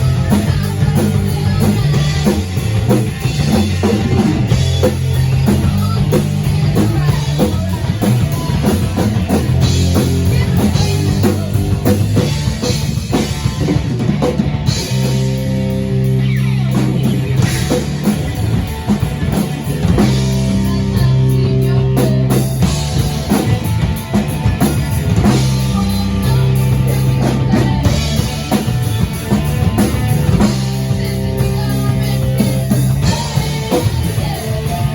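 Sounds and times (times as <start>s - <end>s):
drum kit beat: 0.0s - 34.9s
low bass line: 0.0s - 34.9s
rock guitar: 0.0s - 34.9s.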